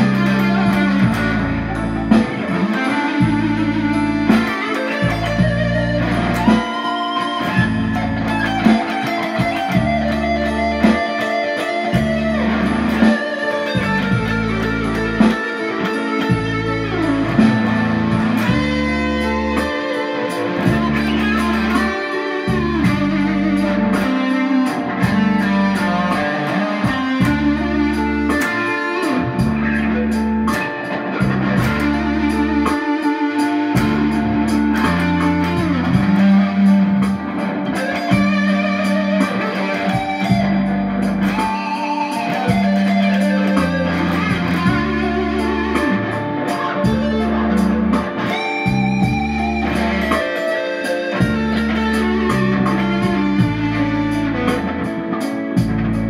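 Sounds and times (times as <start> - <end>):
backing track with bass and beat: 0.0 - 56.0
electric guitar blues lead: 0.0 - 56.0.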